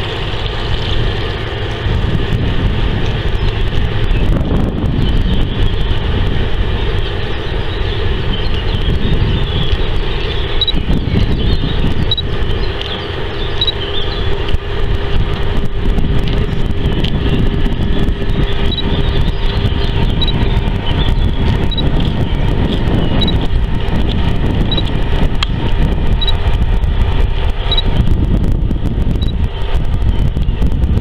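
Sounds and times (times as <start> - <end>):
faint steady hum: 0.0 - 31.0
low outdoor rumble: 0.0 - 31.0.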